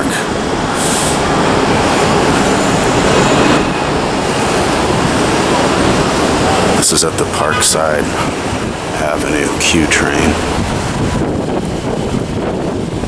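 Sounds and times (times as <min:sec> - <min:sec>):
subway train passing: 0:00.0 - 0:13.0.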